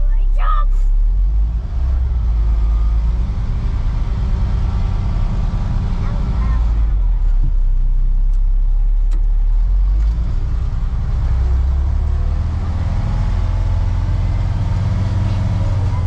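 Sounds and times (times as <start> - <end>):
heavy diesel truck engine rumbling: 0.0 - 16.0.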